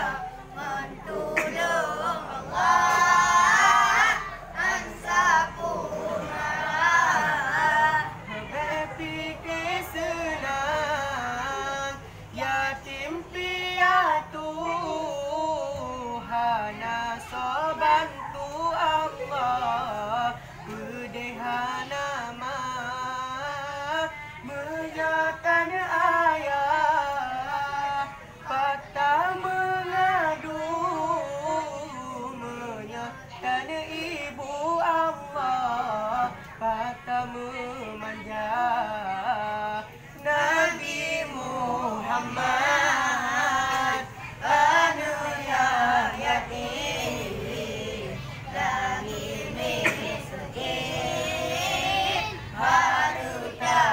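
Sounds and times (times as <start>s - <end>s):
boys chanting together: 0.0s - 53.9s.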